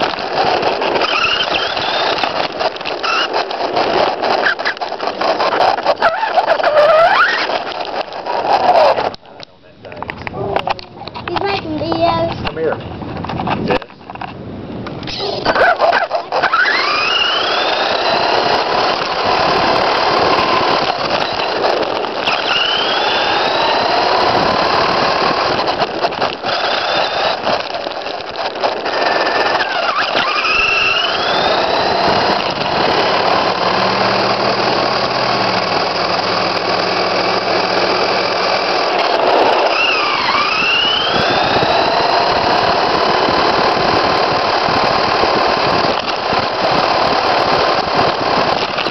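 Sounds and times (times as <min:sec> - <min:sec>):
electric motor whining: 0:00.0 - 0:12.4, 0:14.8 - 0:48.9
road noise: 0:00.0 - 0:48.9
steady rattle: 0:00.0 - 0:48.9.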